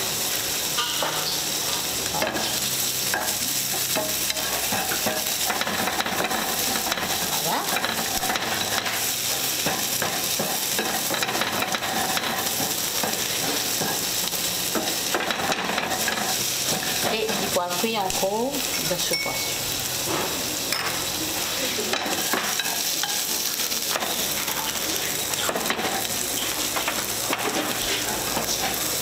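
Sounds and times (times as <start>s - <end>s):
shrimp sizzling in frying pan: 0.0s - 29.0s.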